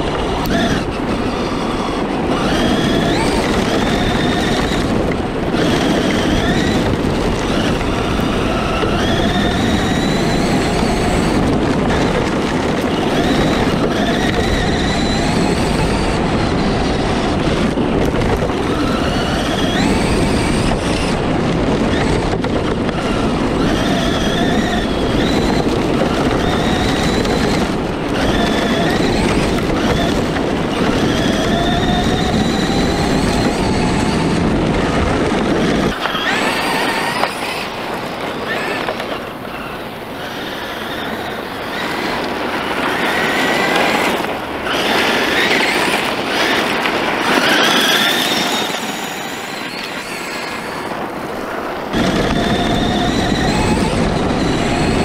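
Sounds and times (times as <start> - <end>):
electric motor whining: 0.0 - 55.0
tyres on gravel: 0.0 - 55.0.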